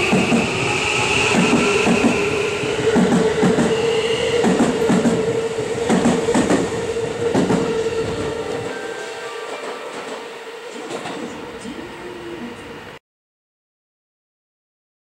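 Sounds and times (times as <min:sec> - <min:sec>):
steady train whine: 0:00.0 - 0:13.0.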